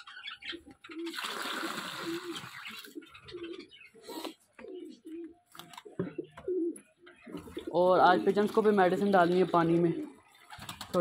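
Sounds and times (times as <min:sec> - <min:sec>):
pigeons cooing: 0:00.0 - 0:10.9.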